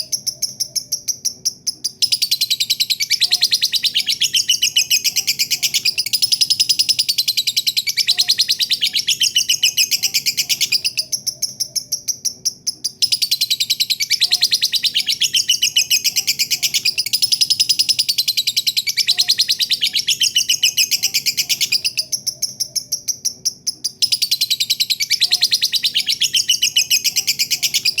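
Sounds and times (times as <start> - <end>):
bird chattering trill: 0.0 - 28.0.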